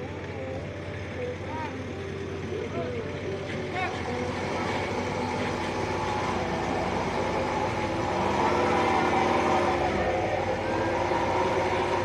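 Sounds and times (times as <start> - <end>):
large engine rumbling: 0.0 - 12.0.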